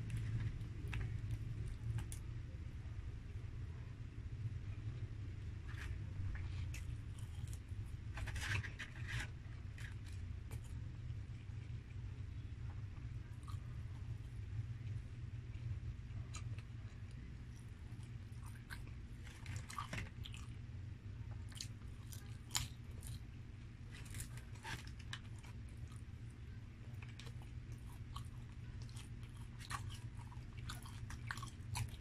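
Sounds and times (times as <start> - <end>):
chewing crispy fried chicken: 5.7 - 32.0.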